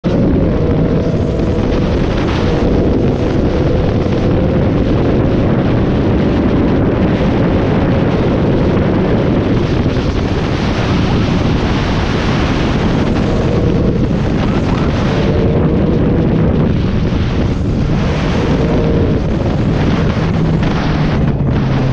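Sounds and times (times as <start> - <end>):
motorcycle engine running: 0.0 - 21.9
wind buffeting microphone: 0.0 - 21.9.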